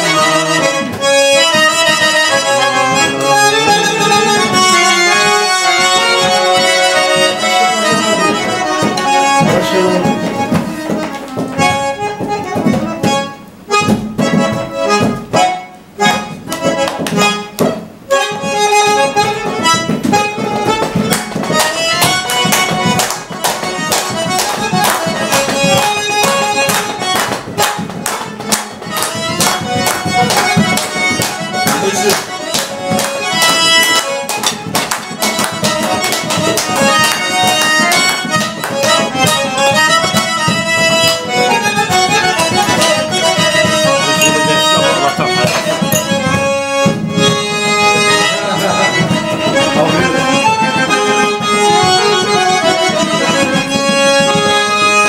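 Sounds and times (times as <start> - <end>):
button accordion lively tune: 0.0 - 55.0
hands clapping along: 0.0 - 55.0.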